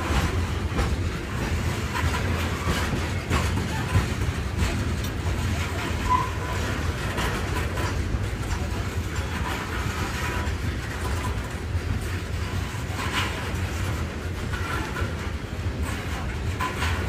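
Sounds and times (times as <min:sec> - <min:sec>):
rail clacks: 0:00.0 - 0:17.0
train wheels rumbling on rails: 0:00.0 - 0:17.0.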